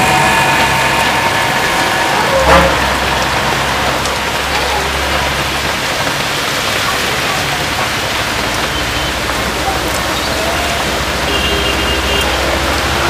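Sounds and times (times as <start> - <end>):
heavy rain on wet road: 0.0 - 13.0
traffic driving through rain: 0.0 - 13.0
vehicle engine rumbling: 0.0 - 13.0.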